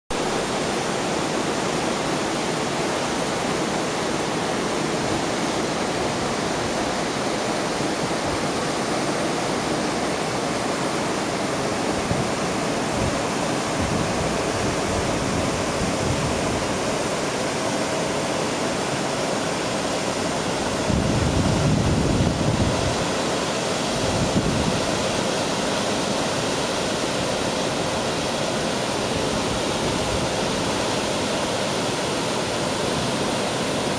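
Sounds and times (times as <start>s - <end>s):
waterfall rushing over rock: 0.1s - 33.9s.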